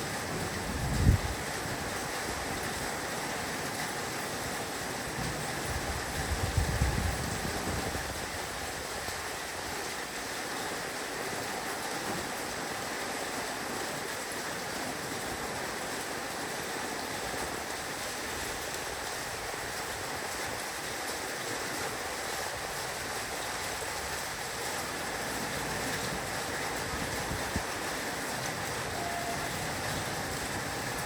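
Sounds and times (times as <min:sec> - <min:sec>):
heavy rain on a roof: 0:00.0 - 0:31.0.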